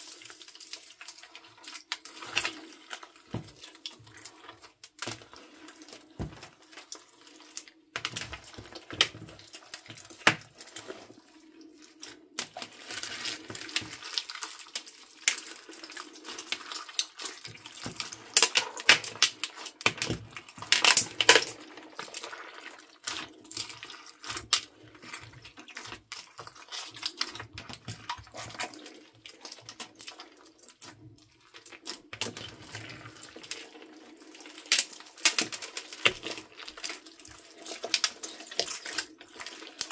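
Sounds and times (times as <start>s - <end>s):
slime squelching: 0.0s - 39.9s.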